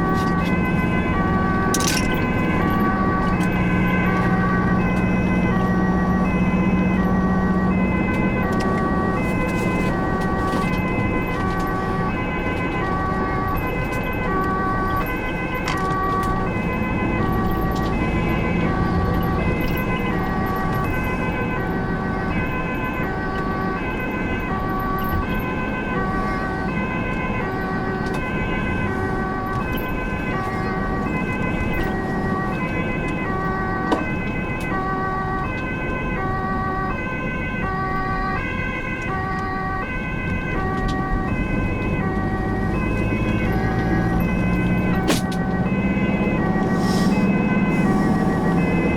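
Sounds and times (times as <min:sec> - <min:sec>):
ambulance two-tone siren: 0:00.0 - 0:48.9
vehicle engine and road noise: 0:00.0 - 0:48.9.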